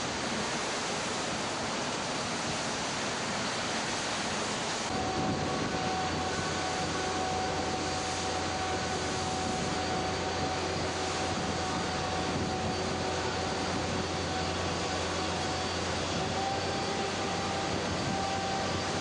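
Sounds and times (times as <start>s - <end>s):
mechanical drone with high whine: 0.0s - 19.0s
wind and sea rushing: 0.0s - 19.0s.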